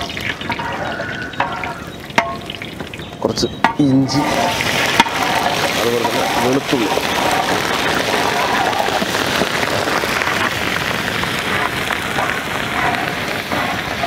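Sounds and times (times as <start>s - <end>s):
ladle stirring in metal pan: 0.0s - 3.0s, 3.6s - 14.0s
chillies sizzling in hot oil: 0.0s - 14.0s.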